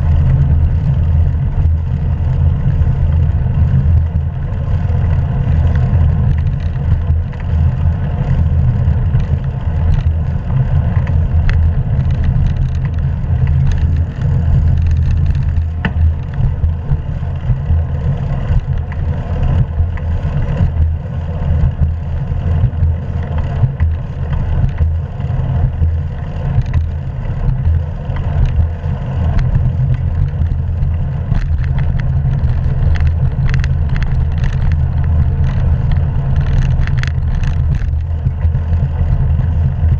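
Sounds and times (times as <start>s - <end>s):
tyre and road noise: 0.0s - 39.9s.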